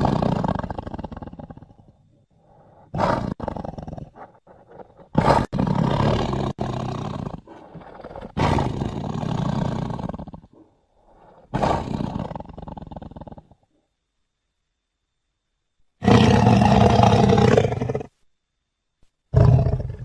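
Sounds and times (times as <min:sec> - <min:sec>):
big cat roaring: 0:00.0 - 0:13.6, 0:16.0 - 0:18.1, 0:19.4 - 0:20.0
big cat growling: 0:00.0 - 0:13.7, 0:16.0 - 0:18.1, 0:19.3 - 0:20.0.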